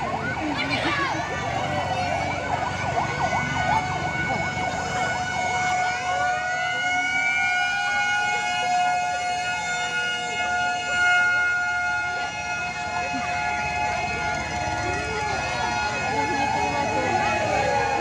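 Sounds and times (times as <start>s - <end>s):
siren wavering: 0.0s - 18.0s
street noise: 0.0s - 18.0s.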